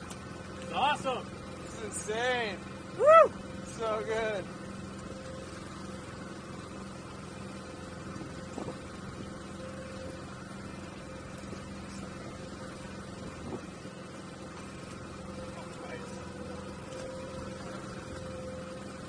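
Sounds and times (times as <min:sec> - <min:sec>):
boat motor idling: 0:00.0 - 0:19.0.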